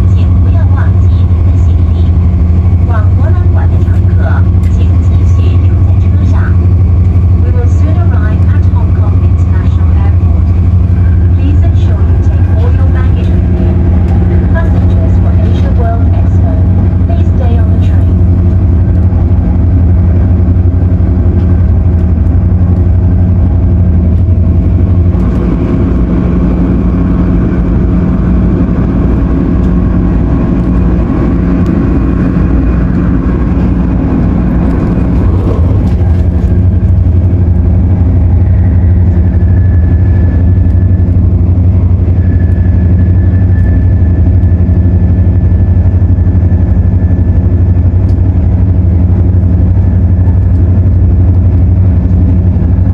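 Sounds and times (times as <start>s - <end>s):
air-conditioning noise: 0.0s - 52.9s
train cabin low hum: 0.0s - 52.9s.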